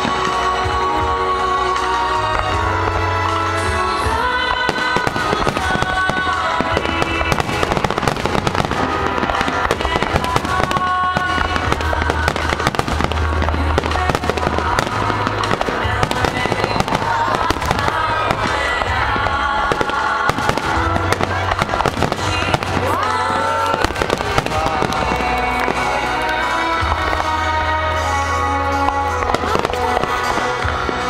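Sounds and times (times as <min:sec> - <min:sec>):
fireworks bangs and crackles: 0:00.0 - 0:31.0
music over loudspeakers: 0:00.0 - 0:31.0.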